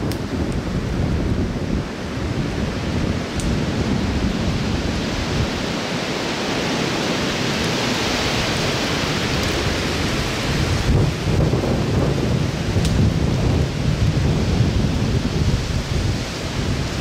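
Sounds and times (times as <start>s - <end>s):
strong wind through woods: 0.0s - 17.0s
wind buffeting microphone: 0.0s - 17.0s.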